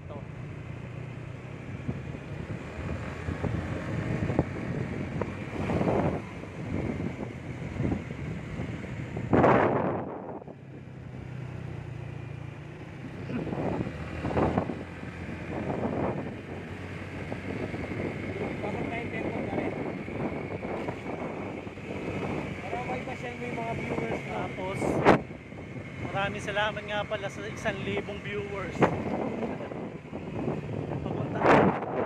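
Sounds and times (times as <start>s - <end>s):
vehicle engine running: 0.0s - 32.0s
wind gusting on microphone: 1.7s - 10.9s, 12.9s - 32.0s.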